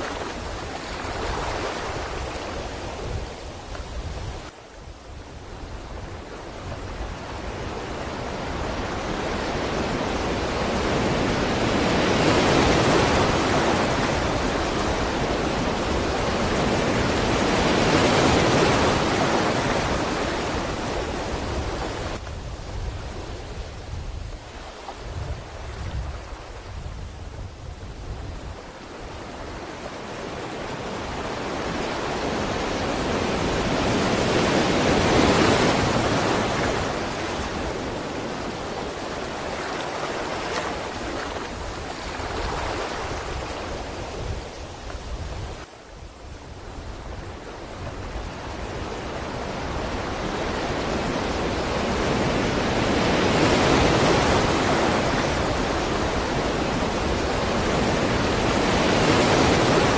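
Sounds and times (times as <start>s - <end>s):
sea waves on shore: 0.0s - 59.9s.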